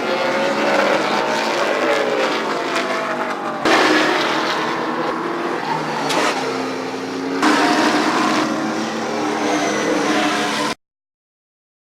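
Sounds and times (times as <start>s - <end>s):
race car engines at high revs: 0.0s - 10.8s.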